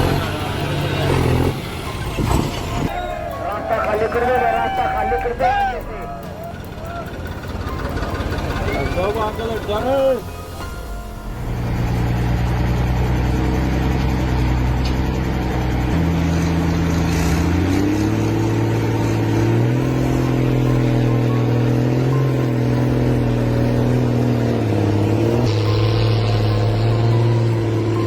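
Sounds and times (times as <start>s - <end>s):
tractor engine at high revs: 0.0s - 2.9s, 6.5s - 10.5s, 11.1s - 28.0s.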